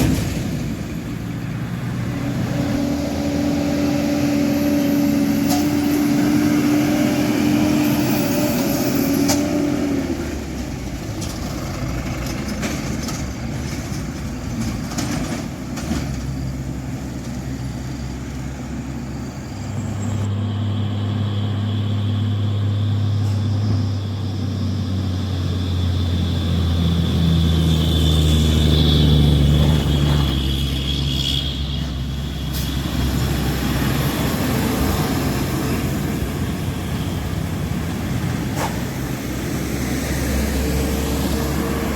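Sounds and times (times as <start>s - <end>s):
diesel truck engine pulling hard: 0.0s - 41.9s.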